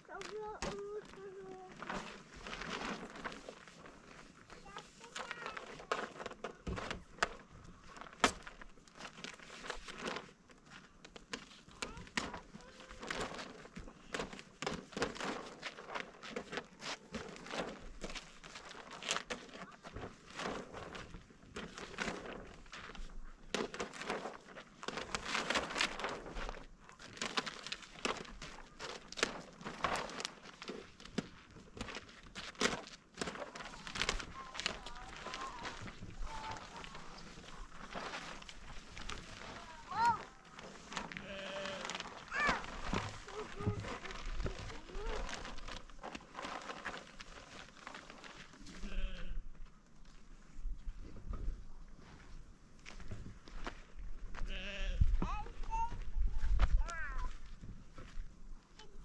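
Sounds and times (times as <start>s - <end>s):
plastic sheeting crinkling: 0.0s - 59.0s.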